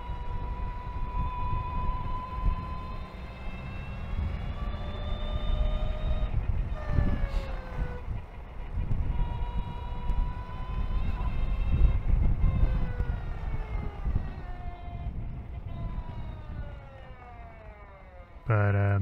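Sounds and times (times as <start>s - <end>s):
electric motorcycle motor whining: 0.0s - 18.6s
wind and road noise rumble: 0.0s - 19.0s.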